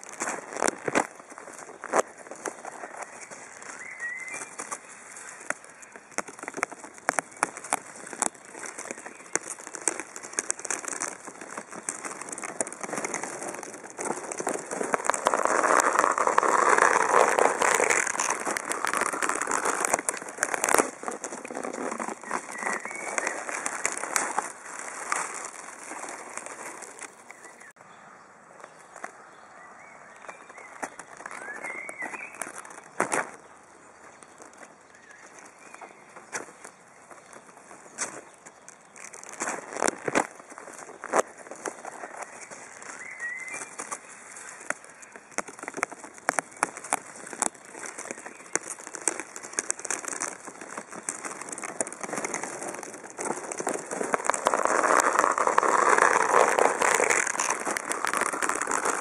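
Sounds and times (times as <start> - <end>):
crackling noise with sharp clicks: 0.0 - 27.8, 30.2 - 59.0.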